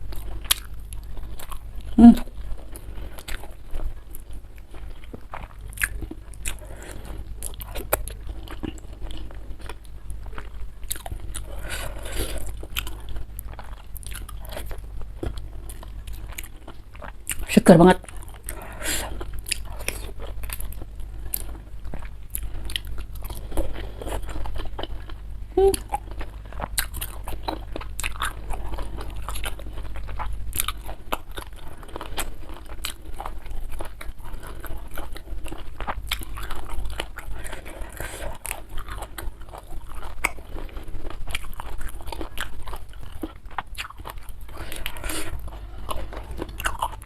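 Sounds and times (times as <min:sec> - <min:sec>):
person chewing crunchy food: 0:00.0 - 0:47.0.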